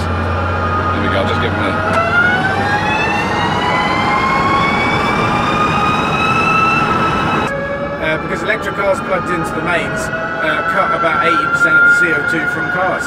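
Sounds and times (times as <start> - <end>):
electric drivetrain whine: 0.0 - 13.0.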